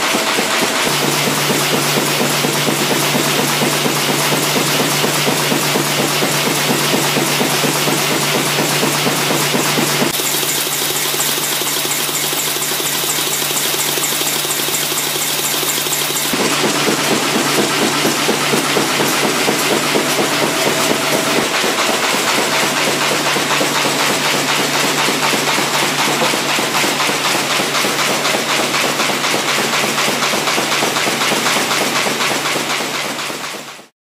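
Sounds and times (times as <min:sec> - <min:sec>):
folding machine clattering: 0:00.0 - 0:33.8.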